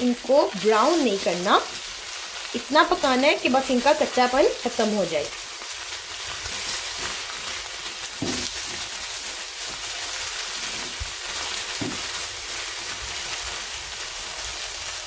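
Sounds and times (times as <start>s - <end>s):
spatula stirring in a wok: 0.0s - 2.6s, 5.3s - 15.0s
onions sizzling in hot oil: 0.0s - 15.0s.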